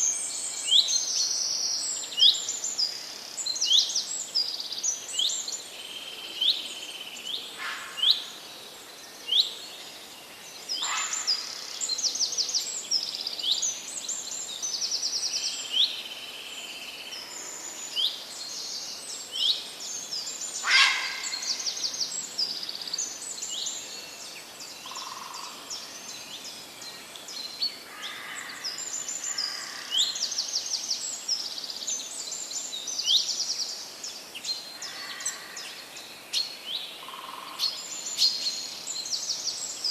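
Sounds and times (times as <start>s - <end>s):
forest stream: 0.0s - 39.9s
songbirds chirping and trilling: 0.0s - 39.9s.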